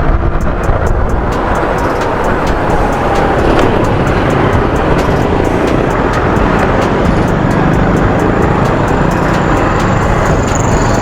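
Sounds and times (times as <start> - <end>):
motorcycle engine: 0.0 - 11.0
road noise: 0.0 - 11.0
wind rush on microphone: 0.0 - 11.0
faint regular ticking: 0.2 - 11.0.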